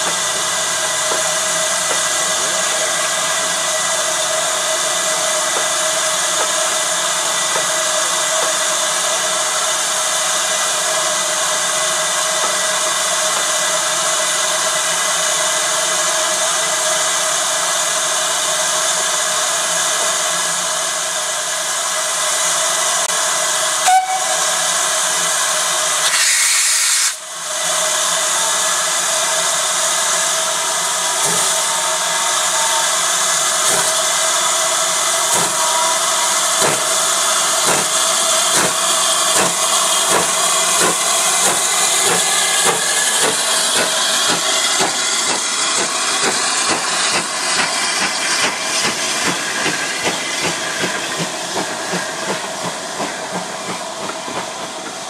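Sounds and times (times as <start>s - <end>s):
steam hissing: 0.0s - 55.0s
steam locomotive exhaust chuffs: 0.0s - 55.0s.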